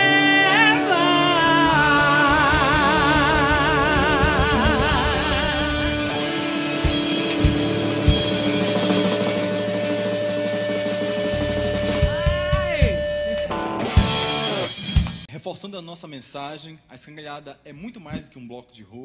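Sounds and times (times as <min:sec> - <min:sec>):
drum hits and fills: 0:00.0 - 0:15.3
live rock band: 0:00.0 - 0:15.3.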